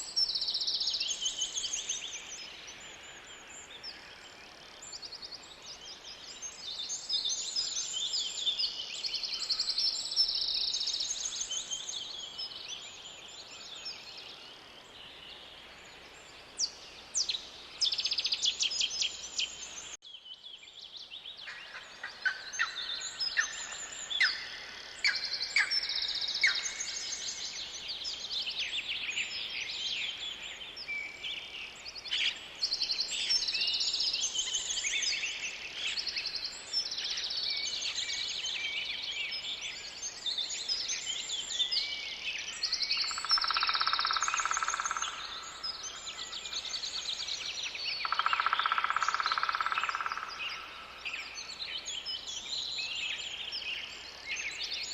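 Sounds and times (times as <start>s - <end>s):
faint background hiss: 0.0s - 54.9s
songbirds singing: 0.0s - 54.9s.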